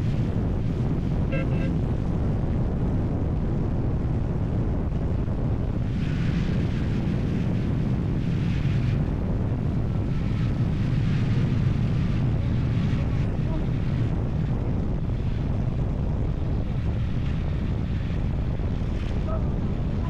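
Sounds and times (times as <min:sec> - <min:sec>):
vehicle-like drone: 0:00.0 - 0:20.0
wind buffeting microphone: 0:00.0 - 0:20.0.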